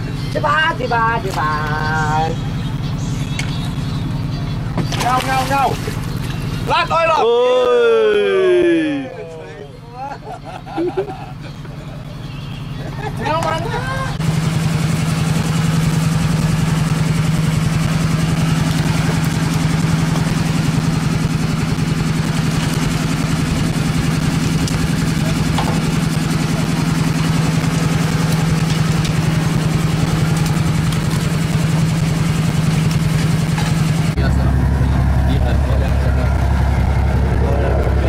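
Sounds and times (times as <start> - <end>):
boat engine humming: 0.0 - 38.0.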